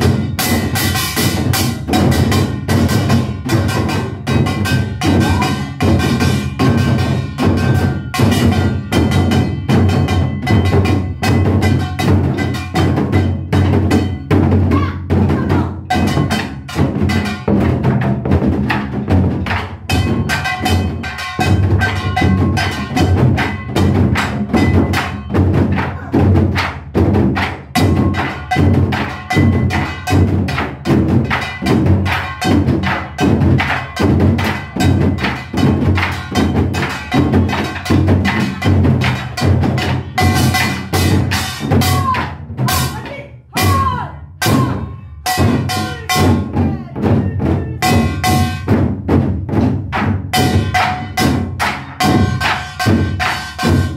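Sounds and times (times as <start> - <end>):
barrel drums beaten with sticks: 0.0 - 53.9.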